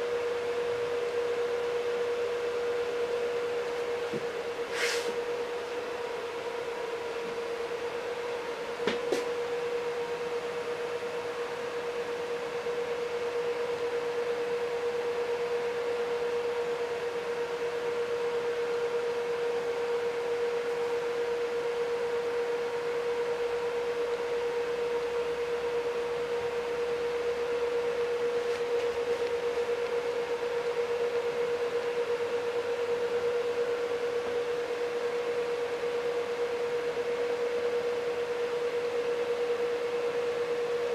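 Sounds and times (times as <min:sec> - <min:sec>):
steady mid-pitch hum: 0:00.0 - 0:40.9.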